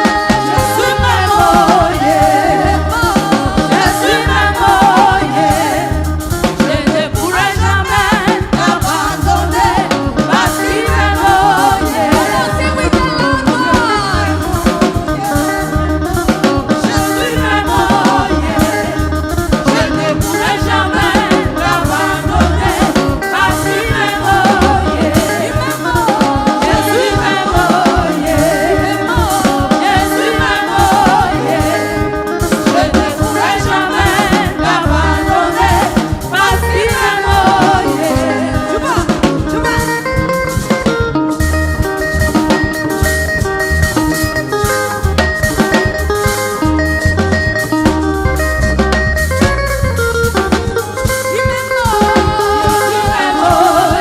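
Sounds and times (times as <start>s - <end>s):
voices singing: 0.0s - 40.8s, 51.0s - 54.0s
bass guitar: 0.0s - 54.0s
drum kit beat: 0.0s - 54.0s.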